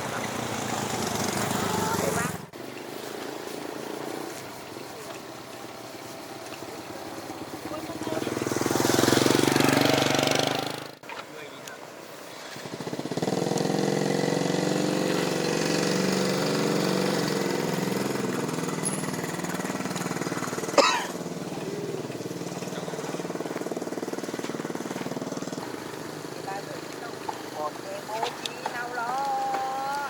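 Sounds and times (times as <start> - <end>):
small engine running: 0.0 - 11.0, 12.0 - 30.0.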